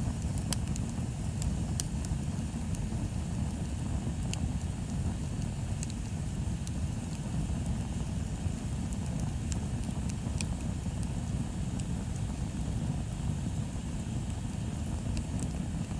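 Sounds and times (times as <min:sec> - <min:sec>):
bonfire rumble: 0:00.0 - 0:15.9
fire crackling and popping: 0:00.0 - 0:15.9.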